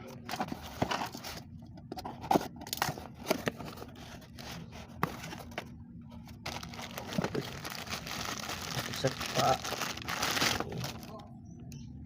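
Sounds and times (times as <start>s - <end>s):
packaging rustling and scraping: 0.2s - 11.1s.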